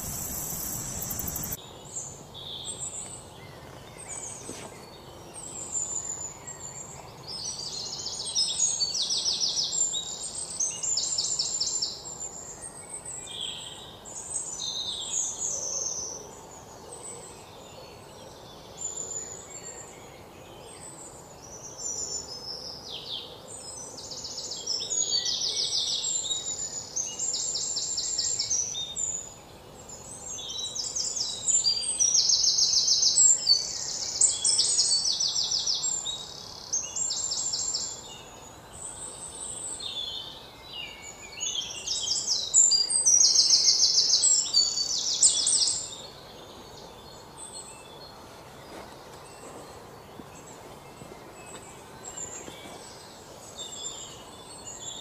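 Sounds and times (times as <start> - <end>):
birds singing: 0.0 - 55.0
faint steady background noise: 0.0 - 55.0.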